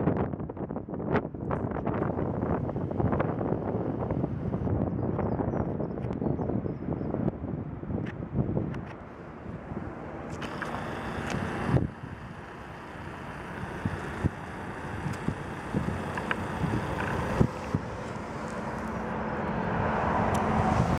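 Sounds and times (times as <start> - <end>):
wind buffeting microphone: 0.0 - 20.9
outdoor rumble: 0.9 - 6.2, 7.1 - 20.9
faint engine drone: 1.5 - 20.9.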